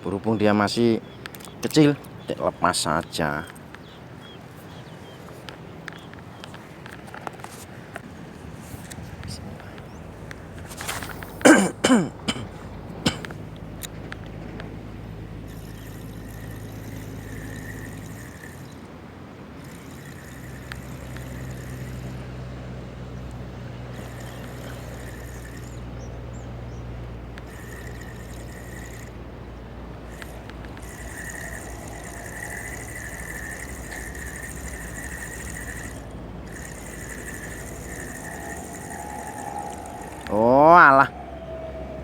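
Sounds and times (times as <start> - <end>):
water lapping and trickling: 1.1 - 40.5
low motor drone: 8.0 - 42.0.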